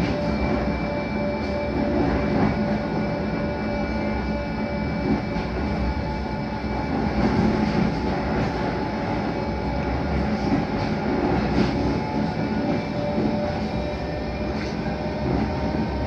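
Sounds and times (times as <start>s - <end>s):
tram wheels rumbling on rail: 0.0s - 16.0s.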